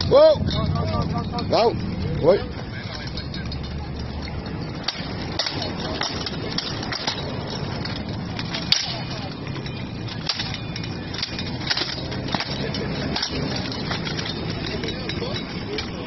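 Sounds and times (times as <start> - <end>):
armour rattling: 0.0 - 16.0
steel weapons clanking on armour: 0.0 - 16.0.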